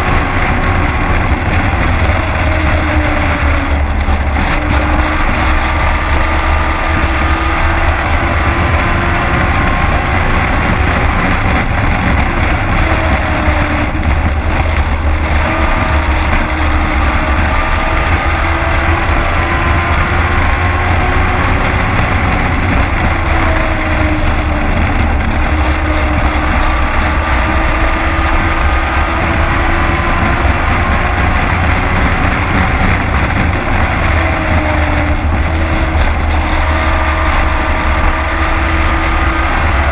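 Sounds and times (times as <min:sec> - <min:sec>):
race truck engine rumbling: 0:00.0 - 0:39.9.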